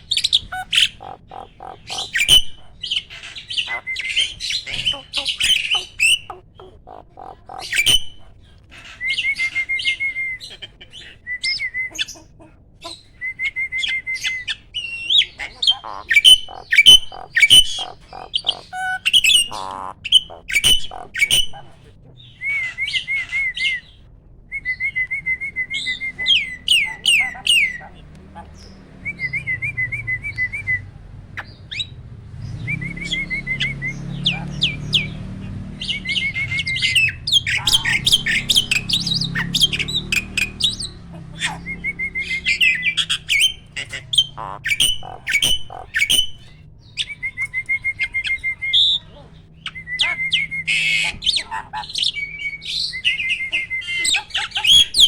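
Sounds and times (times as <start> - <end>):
starling warbling trills: 0.0 - 10.0, 15.2 - 24.0, 25.3 - 55.0.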